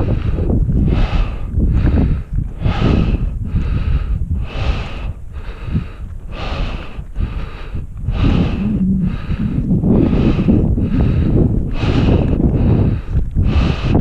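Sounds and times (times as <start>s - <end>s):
heavy rapid breathing: 0.0s - 14.0s
wind rumble on microphone: 0.0s - 14.0s.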